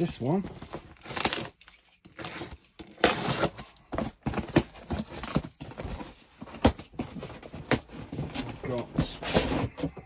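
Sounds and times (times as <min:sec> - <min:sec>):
cardboard rustling: 0:00.0 - 0:10.0.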